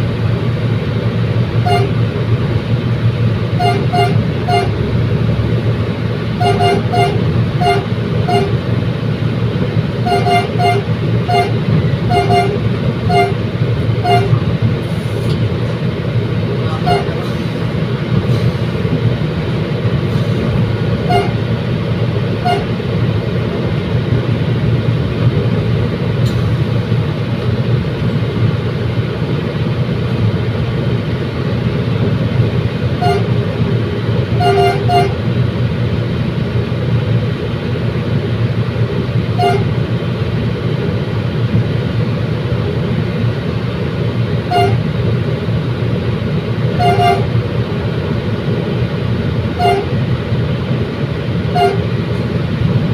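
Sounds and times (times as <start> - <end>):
train rumbling on track: 0.0 - 52.9.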